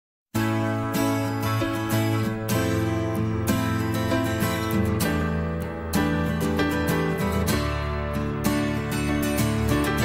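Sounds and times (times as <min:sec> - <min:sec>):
strummed acoustic guitar: 0:00.4 - 0:10.0.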